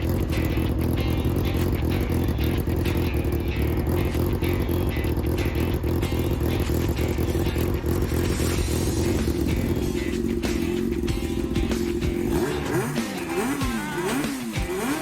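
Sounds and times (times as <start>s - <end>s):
music with regular beat: 0.0s - 15.0s
race car engine running: 0.0s - 15.0s.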